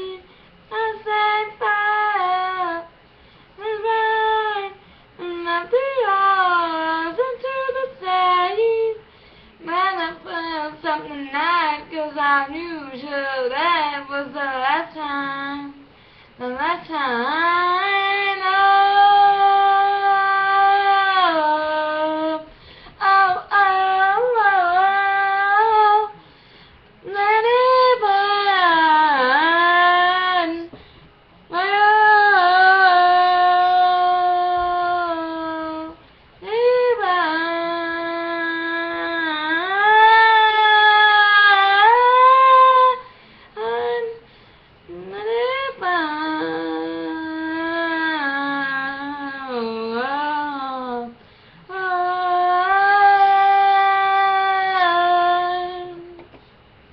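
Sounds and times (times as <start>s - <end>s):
woman singing unaccompanied: 0.0s - 3.0s, 3.6s - 26.2s, 27.0s - 30.8s, 31.5s - 44.3s, 44.9s - 56.4s.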